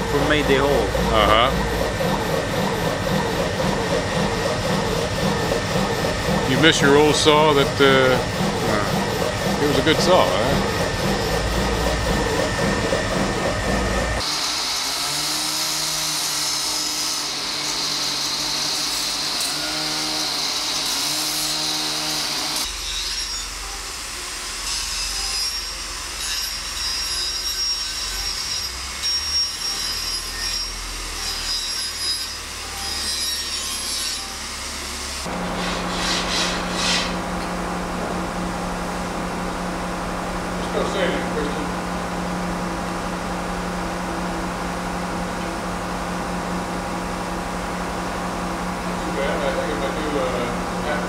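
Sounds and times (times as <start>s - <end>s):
power tool whine: 0.0s - 51.0s.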